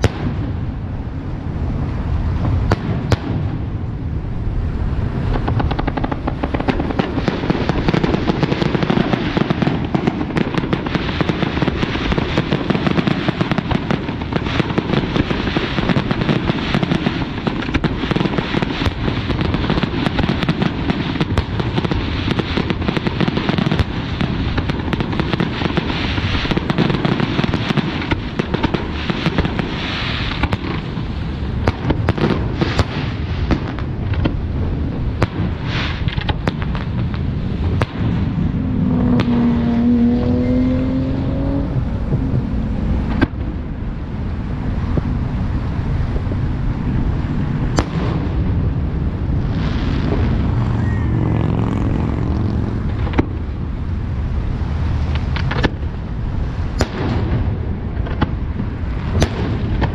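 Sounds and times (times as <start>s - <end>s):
deep fireworks booms: 0.0s - 40.2s, 41.1s - 59.9s
fireworks crackling and bursting: 0.0s - 59.9s.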